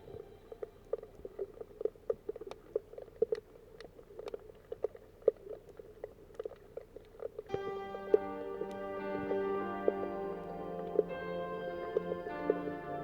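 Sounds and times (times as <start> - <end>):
underwater clicks and crackles: 0.0 - 13.0.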